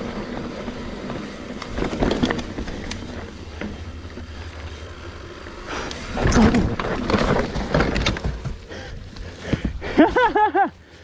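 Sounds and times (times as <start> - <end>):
bike rattling clicks and knocks: 0.0 - 10.7
bike tyres on dirt trail: 0.0 - 11.0.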